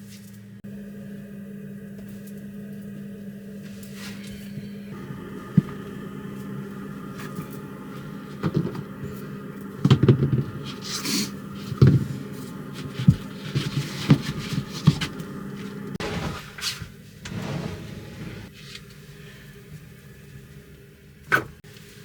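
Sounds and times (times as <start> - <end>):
steady low hum: 0.5 - 18.5.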